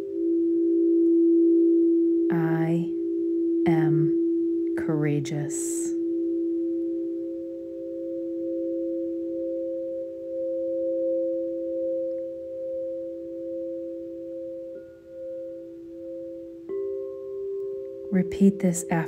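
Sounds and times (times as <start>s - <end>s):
singing bowls ringing: 0.0s - 19.0s.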